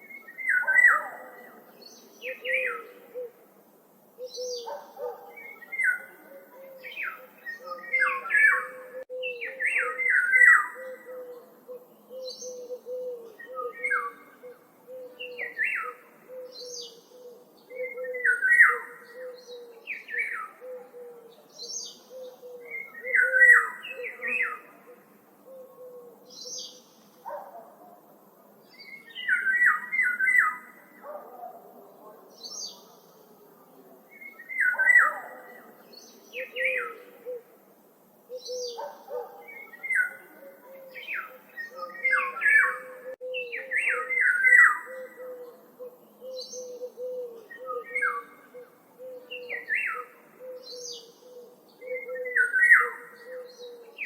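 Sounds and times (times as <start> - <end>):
birds singing: 0.0 - 3.4, 4.1 - 54.0.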